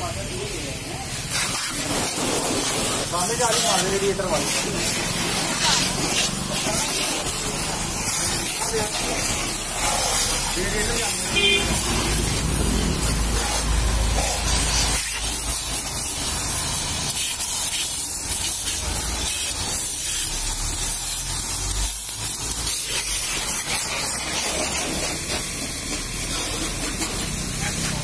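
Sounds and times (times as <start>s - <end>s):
pressure washer spraying car: 0.0s - 28.0s.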